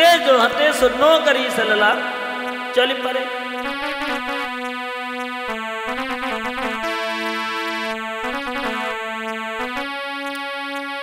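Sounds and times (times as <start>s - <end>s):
keyboard playing slow melody: 0.0s - 11.0s
low sustained keyboard note: 0.8s - 11.0s.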